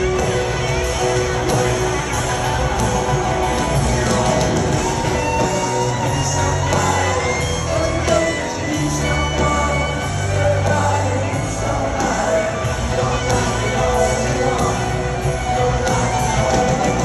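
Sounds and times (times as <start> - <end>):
electric guitar: 0.0 - 17.0
piano: 0.0 - 17.0
rock band playing a ballad: 0.0 - 17.0
person singing: 2.4 - 17.0.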